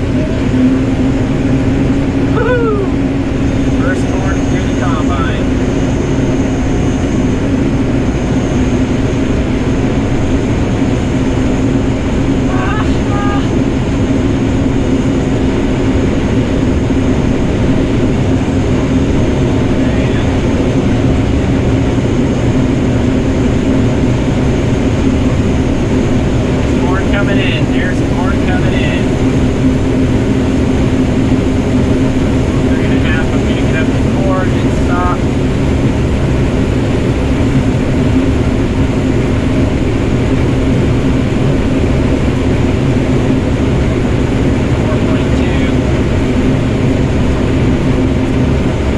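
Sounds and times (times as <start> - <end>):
combine harvester droning: 0.0 - 48.9.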